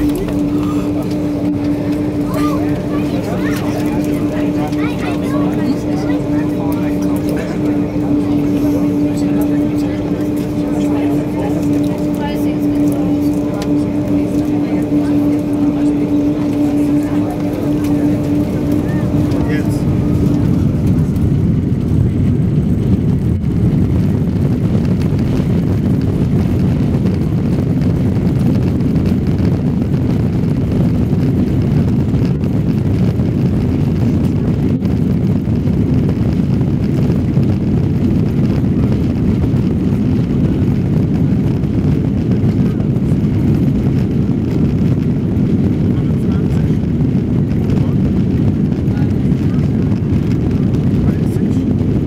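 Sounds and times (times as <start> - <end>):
jet engines at take-off thrust: 0.0 - 52.0
runway rumble: 0.0 - 52.0.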